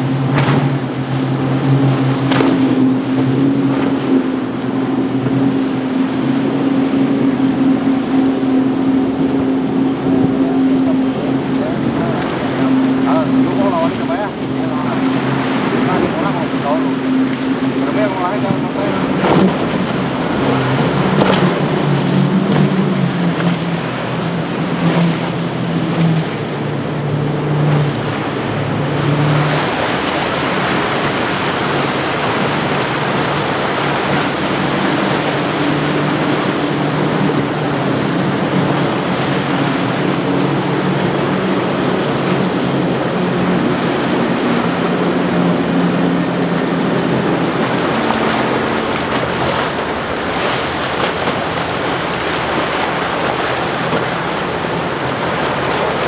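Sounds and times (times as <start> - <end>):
outboard engines humming: 0.0 - 56.0
water rushing and spraying: 0.0 - 56.0.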